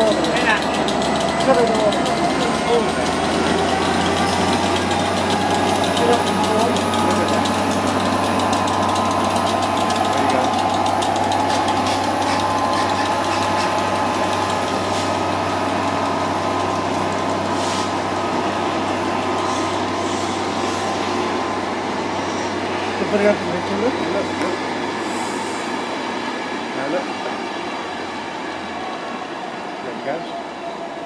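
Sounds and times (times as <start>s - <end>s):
train coaches clicking: 0.0s - 25.9s
diesel locomotive engine running: 0.0s - 31.0s.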